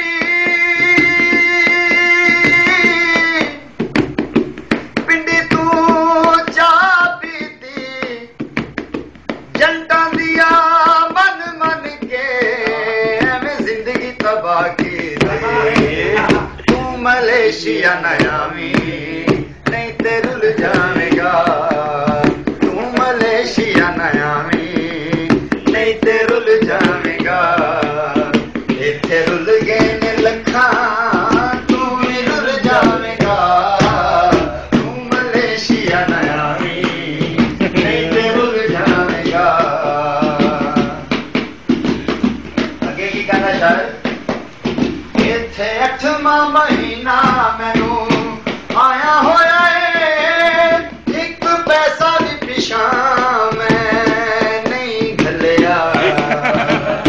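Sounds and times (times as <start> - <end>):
man singing folk song: 0.0 - 3.8, 5.0 - 8.4, 9.5 - 41.2, 42.8 - 44.3, 45.1 - 57.0
hand drum playing: 0.0 - 45.4, 46.6 - 57.0.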